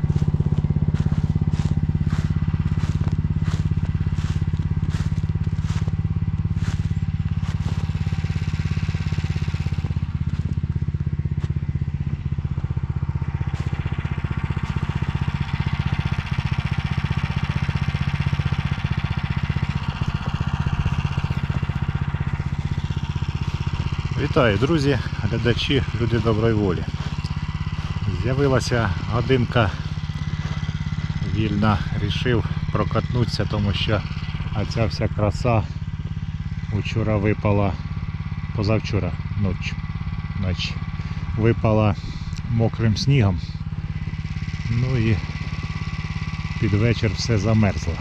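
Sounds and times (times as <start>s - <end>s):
single-cylinder engine running: 0.0s - 48.0s.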